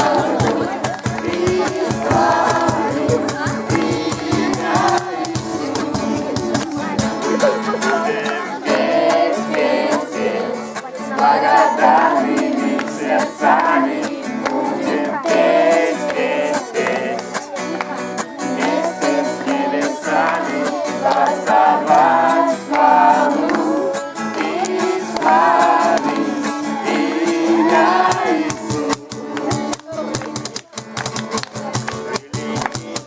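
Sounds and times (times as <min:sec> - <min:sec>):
person singing: 0:00.0 - 0:30.8
strummed string instrument: 0:00.0 - 0:33.0.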